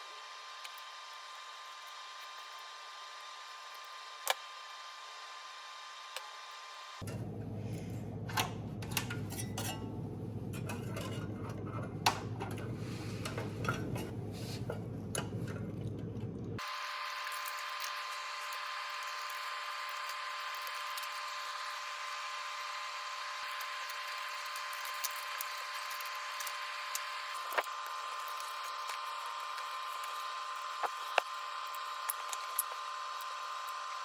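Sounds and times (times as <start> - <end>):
refrigerator fan motor whine: 0.0 - 34.0.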